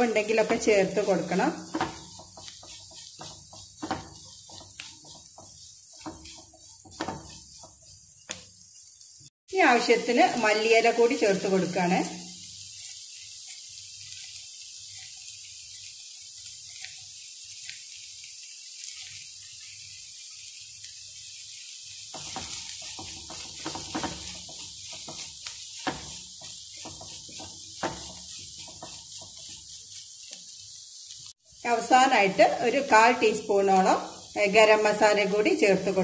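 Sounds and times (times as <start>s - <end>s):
food sizzling in a pan: 0.0s - 36.0s
wooden spatula scraping a pan: 0.0s - 36.0s.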